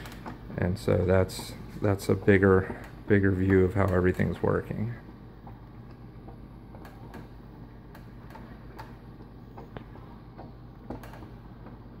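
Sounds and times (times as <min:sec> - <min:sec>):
conveyor belt humming: 0:00.0 - 0:12.0
mechanism ticking and clicking: 0:00.0 - 0:12.0.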